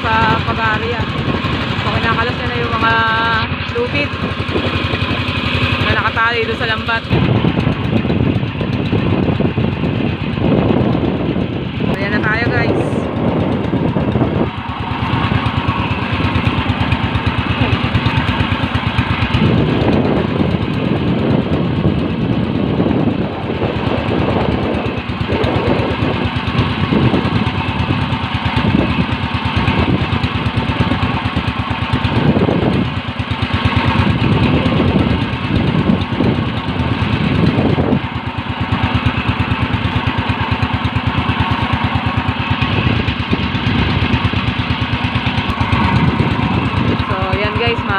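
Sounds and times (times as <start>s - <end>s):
small boat engine running: 0.0s - 47.9s
wind and waves: 0.0s - 47.9s.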